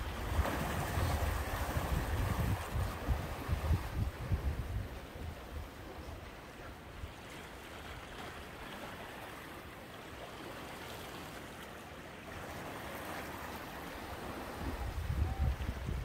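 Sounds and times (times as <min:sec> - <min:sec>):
surf washing against rocks: 0:00.0 - 0:16.0.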